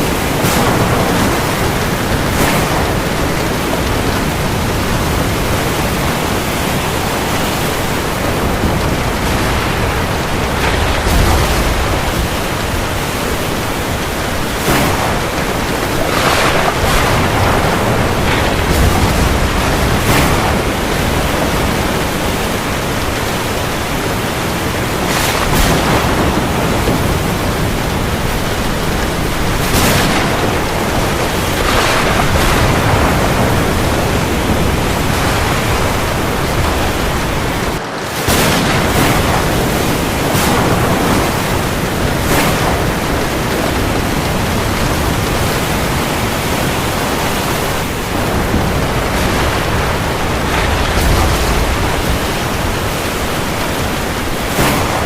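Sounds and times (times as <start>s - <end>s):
heavy rain on the sea: 0.0s - 55.0s.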